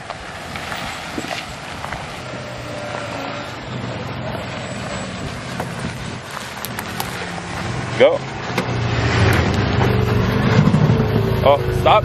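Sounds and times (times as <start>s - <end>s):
outdoor noise rush: 0.0s - 12.0s
suv engine driving slowly: 0.0s - 12.0s.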